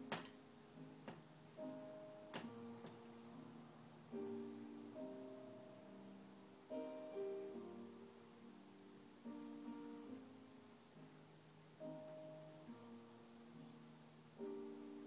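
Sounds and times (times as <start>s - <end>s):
soft instrumental music chords: 0.0s - 15.0s.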